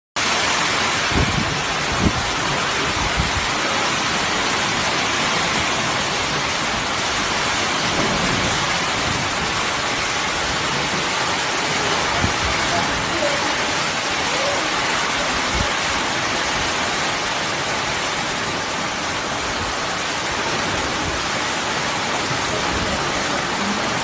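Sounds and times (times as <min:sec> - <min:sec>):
heavy rain downpour: 0:00.2 - 0:24.0.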